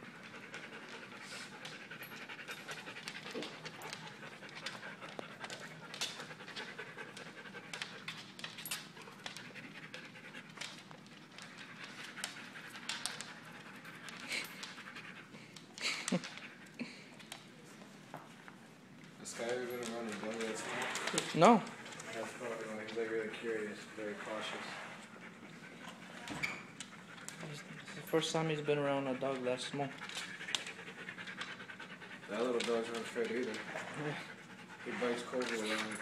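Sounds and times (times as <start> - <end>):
dogs panting: 0.0 - 17.6, 18.8 - 36.0.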